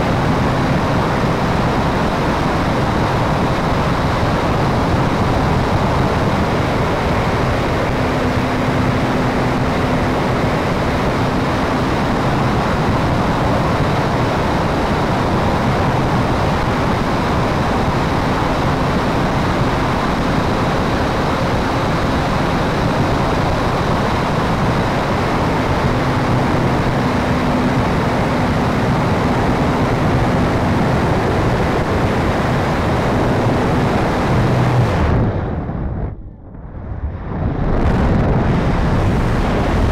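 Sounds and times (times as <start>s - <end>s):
model plane engine and propeller: 0.0s - 36.0s
wind rushing over microphone: 0.0s - 39.9s.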